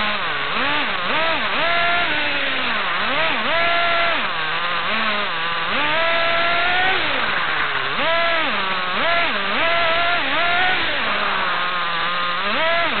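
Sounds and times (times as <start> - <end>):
small engine revving: 0.0 - 13.0.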